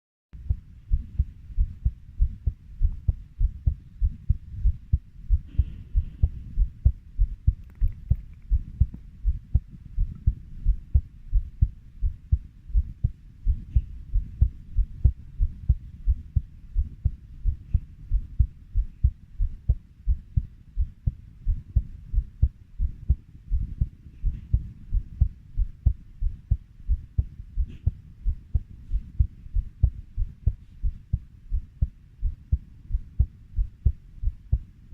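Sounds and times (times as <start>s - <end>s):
heartbeat thumps: 0.4s - 34.7s.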